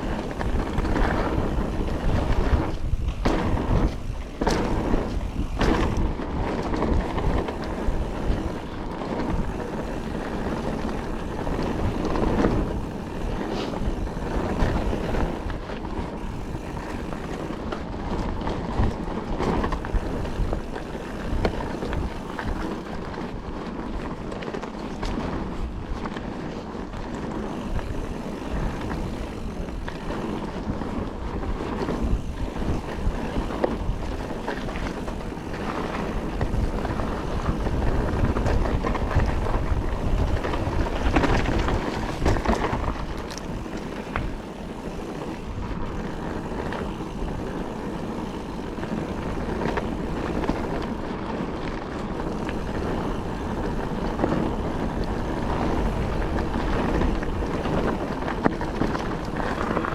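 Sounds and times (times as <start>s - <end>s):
bike rattling over bumps: 0.0s - 59.9s
bike tyres rolling over dirt: 0.0s - 59.9s
wind buffeting microphone: 0.0s - 59.9s.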